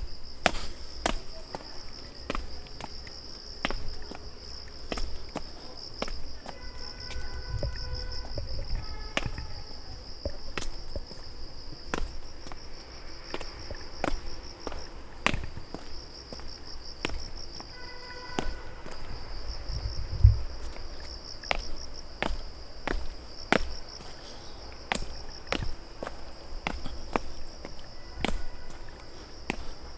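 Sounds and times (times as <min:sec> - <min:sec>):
footsteps on a trail: 0:00.0 - 0:29.9
insects trilling: 0:00.0 - 0:29.9.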